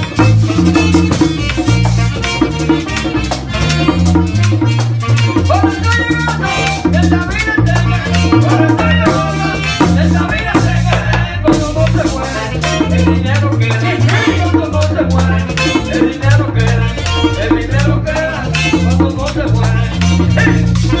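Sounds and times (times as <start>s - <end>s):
accordion melody: 0.0s - 21.0s
drum beat: 0.0s - 21.0s
repeating bass line: 0.0s - 21.0s
saxophone melody: 0.0s - 21.0s
shaken percussion: 0.0s - 21.0s.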